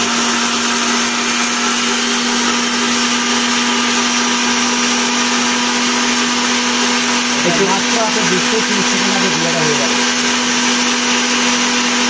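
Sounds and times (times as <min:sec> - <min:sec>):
blender motor grinding seeds: 0:00.0 - 0:12.0.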